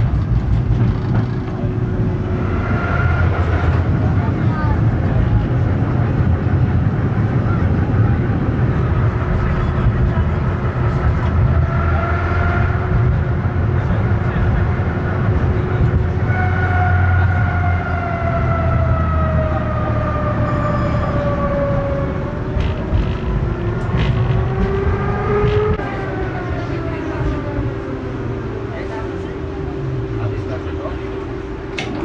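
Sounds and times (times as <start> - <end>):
tram wheels rumbling on tracks: 0.0 - 32.0.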